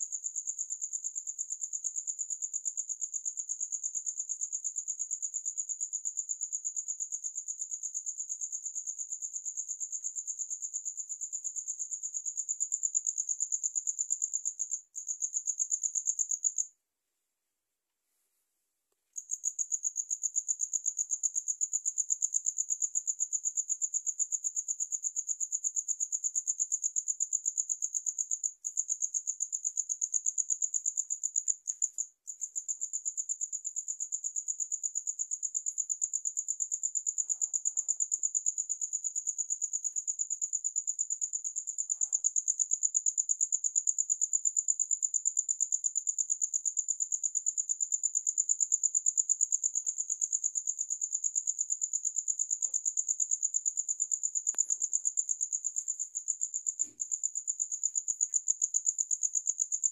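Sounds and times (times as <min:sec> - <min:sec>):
cricket chirping: 0:00.0 - 0:16.8, 0:19.2 - 0:59.9.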